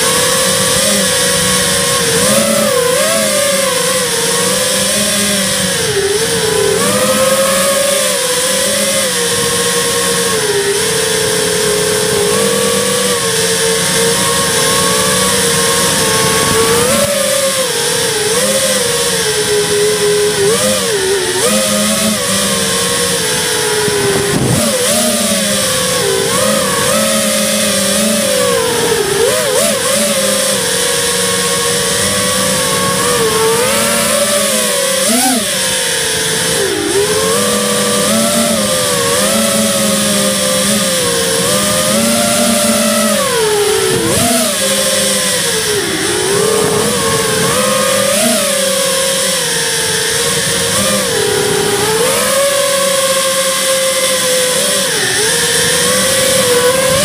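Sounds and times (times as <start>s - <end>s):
rc car motor whining: 0.0s - 57.0s
steady running noise: 0.0s - 57.0s.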